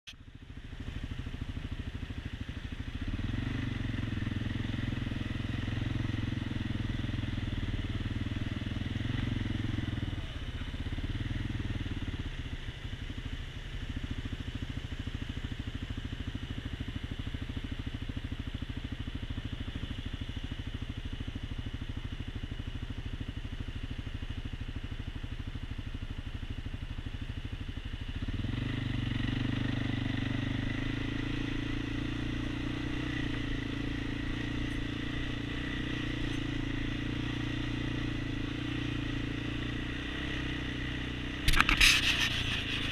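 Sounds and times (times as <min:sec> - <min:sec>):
atv engine chugging rumble: 0:00.0 - 0:42.9.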